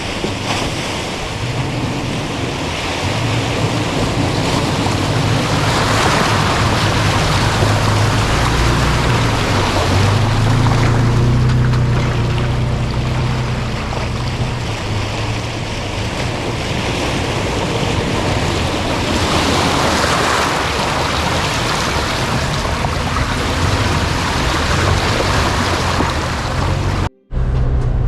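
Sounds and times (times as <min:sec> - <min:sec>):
off-road vehicle engine: 0:00.0 - 0:28.0.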